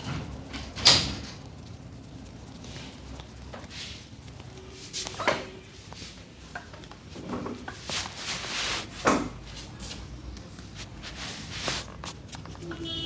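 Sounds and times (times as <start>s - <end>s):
hands rubbing: 0.0s - 12.9s.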